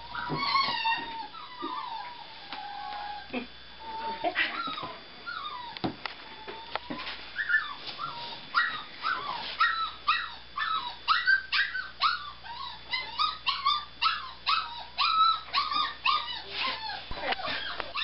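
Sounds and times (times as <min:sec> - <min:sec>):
puppy whining and yipping: 0:00.0 - 0:05.8, 0:06.4 - 0:18.0.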